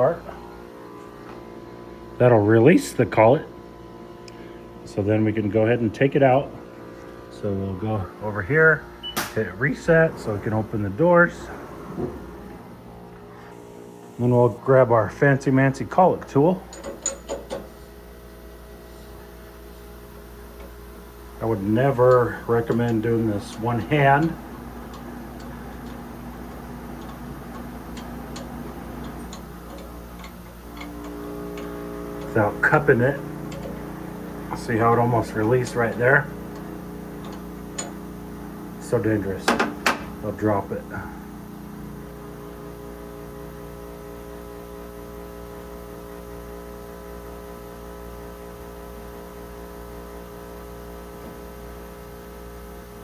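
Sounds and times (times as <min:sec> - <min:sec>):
low machine hum: 0:00.0 - 0:53.0.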